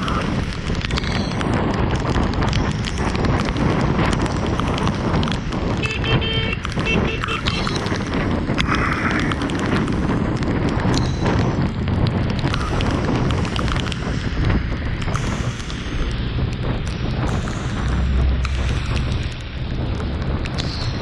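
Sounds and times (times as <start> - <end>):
heavy rain pattering: 0.0 - 21.0.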